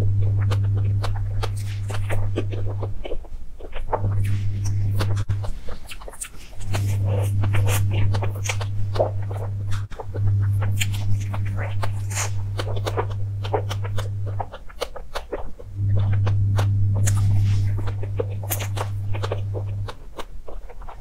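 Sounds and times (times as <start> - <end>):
steady low hum: 0.0 - 21.0
chewing and wet mouth smacks: 0.2 - 21.0.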